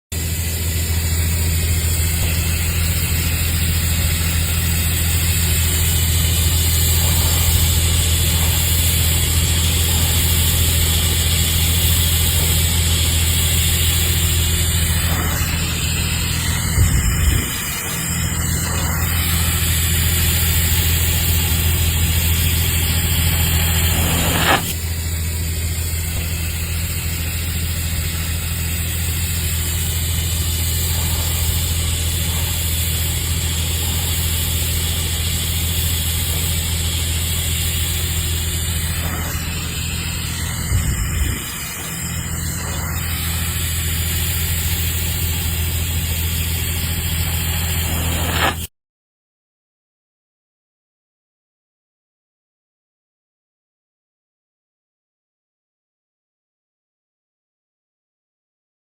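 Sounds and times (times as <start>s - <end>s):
welding arc buzzing and hissing: 0.1s - 48.7s.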